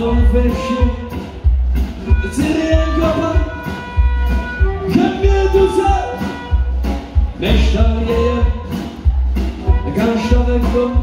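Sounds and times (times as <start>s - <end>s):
amplified harmonica: 0.0s - 11.0s.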